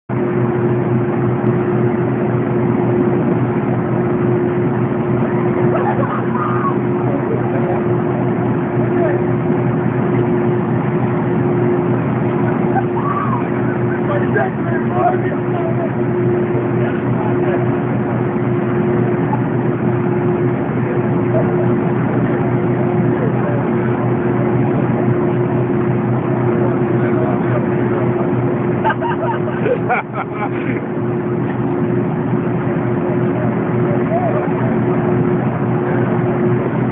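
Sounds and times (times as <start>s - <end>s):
boat engine droning: 0.0s - 36.9s.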